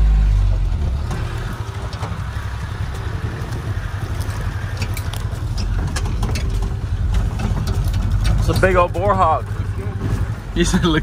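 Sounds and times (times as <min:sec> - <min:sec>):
off-road vehicle engine: 0:00.0 - 0:11.0
sharp rattles: 0:00.8 - 0:11.0.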